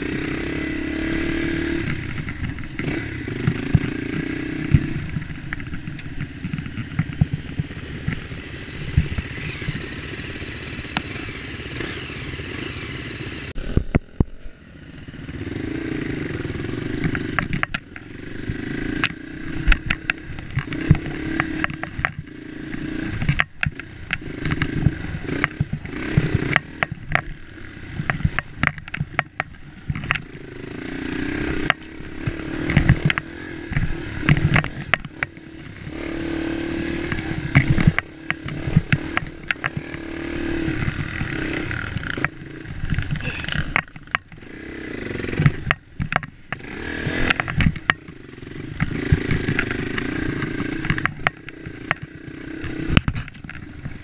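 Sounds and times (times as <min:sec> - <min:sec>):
dirt bike engine revving: 0:00.0 - 0:54.0
bike knocks and rattles: 0:01.0 - 0:10.2, 0:15.2 - 0:54.0.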